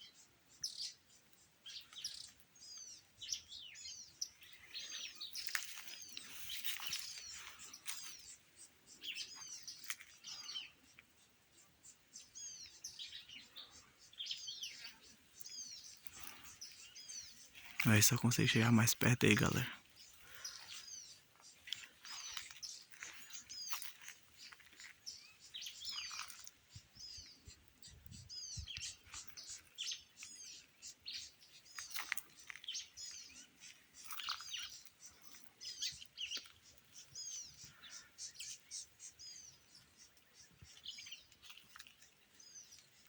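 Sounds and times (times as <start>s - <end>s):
songbirds singing and chirping: 0.0s - 43.0s.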